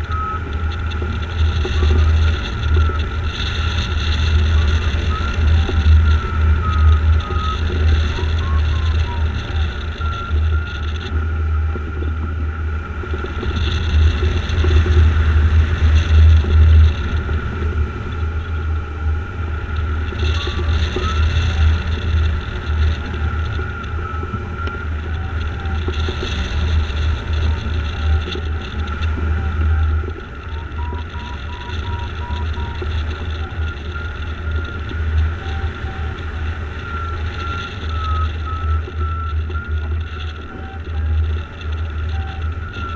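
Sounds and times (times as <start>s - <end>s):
faint high tone and beeps: 0.0s - 42.9s
wind rushing over microphone: 0.0s - 42.9s.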